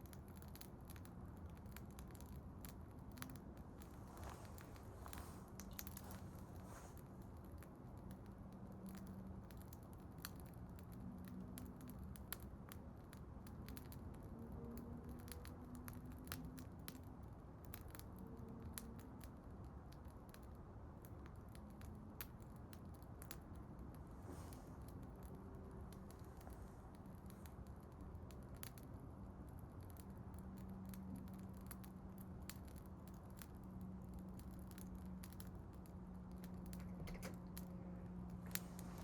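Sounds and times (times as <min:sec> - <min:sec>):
wood bonfire crackling: 0:00.0 - 0:39.0.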